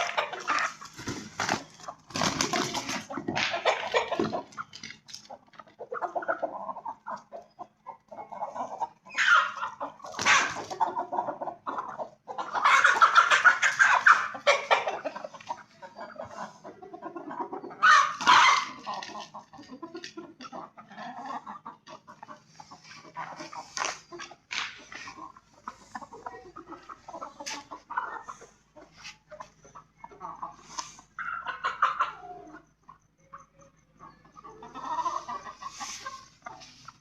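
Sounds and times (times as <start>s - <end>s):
chickens clucking and calling: 0.0s - 37.0s.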